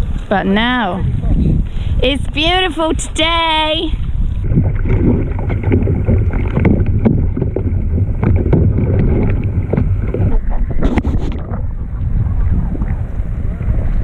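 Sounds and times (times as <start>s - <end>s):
sea water splashing: 0.0s - 14.0s
wind buffeting microphone: 0.0s - 14.0s.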